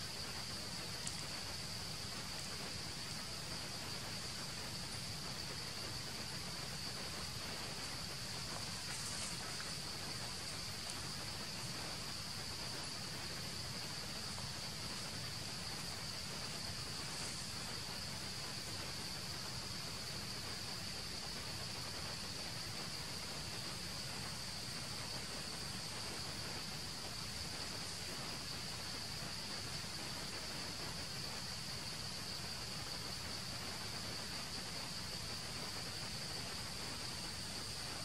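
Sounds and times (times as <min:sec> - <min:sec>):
insect chorus buzzing: 0:00.0 - 0:38.0
soft background hiss: 0:00.0 - 0:38.0.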